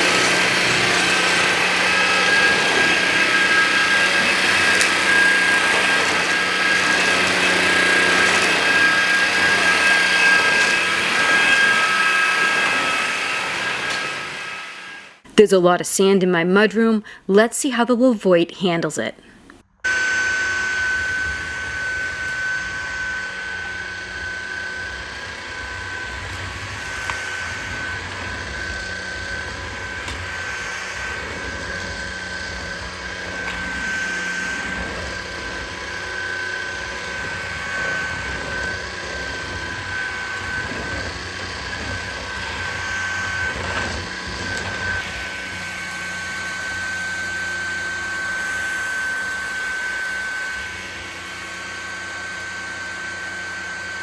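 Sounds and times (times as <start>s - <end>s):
stick vacuum running: 0.0s - 15.2s, 19.8s - 54.0s.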